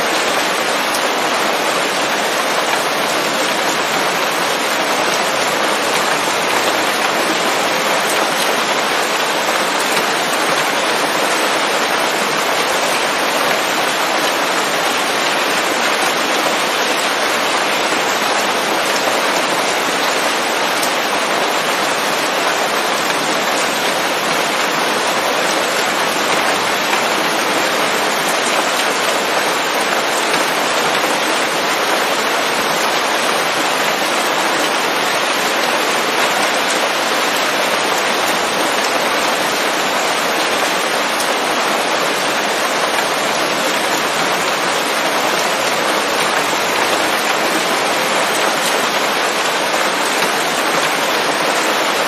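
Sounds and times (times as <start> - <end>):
rain falling on leaves: 0.0 - 52.0.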